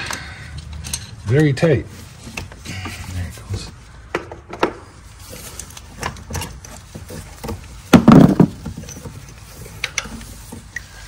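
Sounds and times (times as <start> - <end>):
hand tools clattering: 0.0 - 3.3, 5.2 - 11.0.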